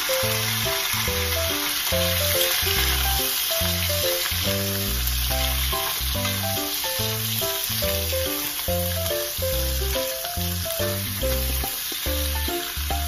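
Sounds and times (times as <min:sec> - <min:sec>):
background music: 0:00.0 - 0:13.0
chicken sizzling in a frying pan: 0:00.0 - 0:13.0.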